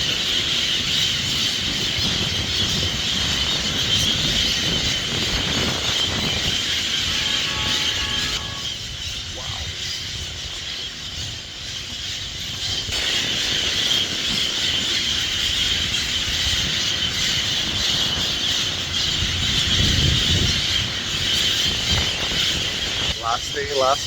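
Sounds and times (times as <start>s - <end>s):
flock of birds calling: 0.0s - 24.0s.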